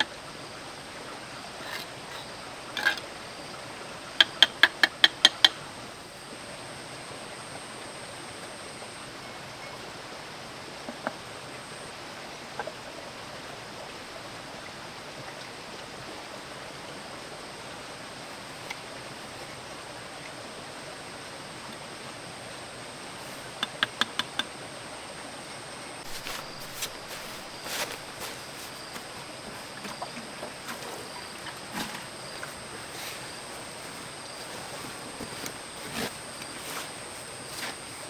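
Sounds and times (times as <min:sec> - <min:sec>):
stream running: 0:00.0 - 0:38.0.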